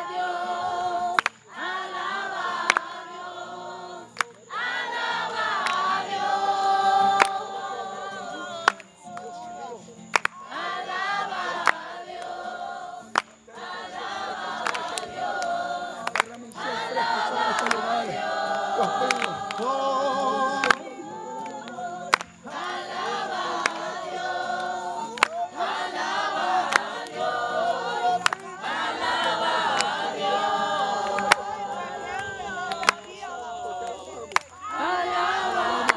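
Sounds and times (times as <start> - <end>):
group of people singing: 0.0 - 35.9.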